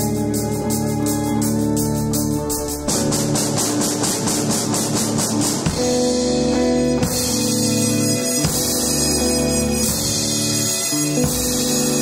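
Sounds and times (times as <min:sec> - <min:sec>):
drums: 0:00.0 - 0:12.0
electric guitar: 0:00.0 - 0:12.0.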